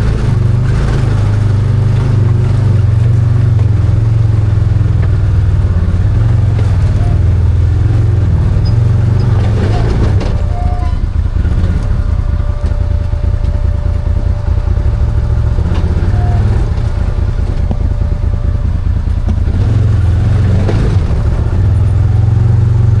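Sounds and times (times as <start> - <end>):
side-by-side engine running: 0.0 - 23.0.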